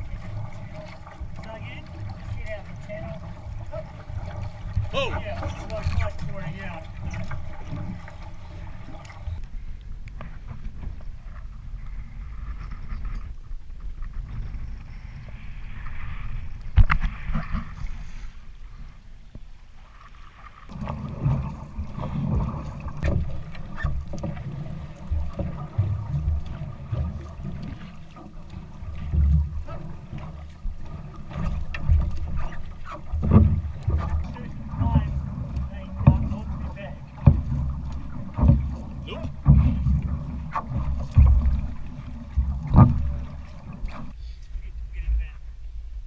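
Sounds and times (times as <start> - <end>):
water sloshing around canoe: 0.0 - 46.0.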